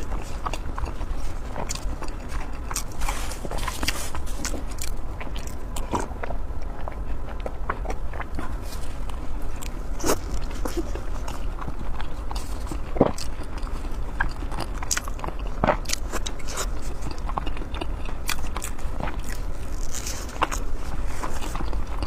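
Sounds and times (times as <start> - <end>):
person biting and chewing food: 0.0 - 22.0.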